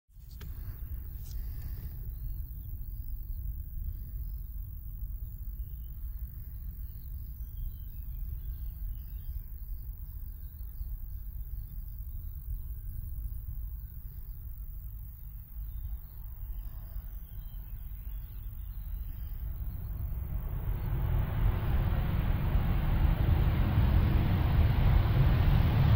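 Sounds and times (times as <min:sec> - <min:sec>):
jet engine rumble: 0:00.2 - 0:25.9
small birds chirping: 0:00.3 - 0:21.6.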